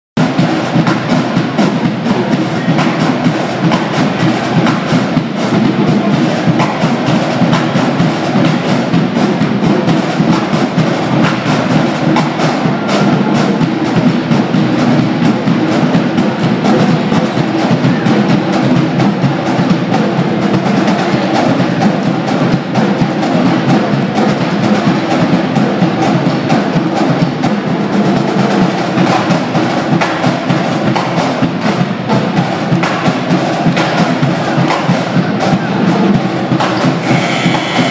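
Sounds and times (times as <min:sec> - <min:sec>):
drums playing busy rhythm: 0:00.2 - 0:37.9.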